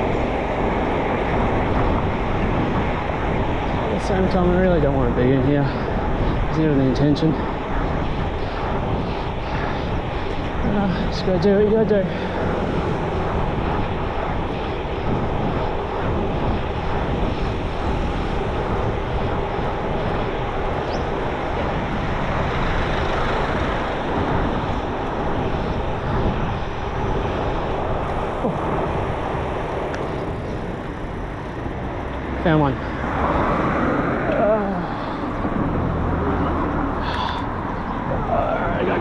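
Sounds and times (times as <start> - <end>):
bicycle road noise: 0.0 - 39.0
motor traffic drone: 0.0 - 39.0
wind rushing over microphone: 0.0 - 39.0.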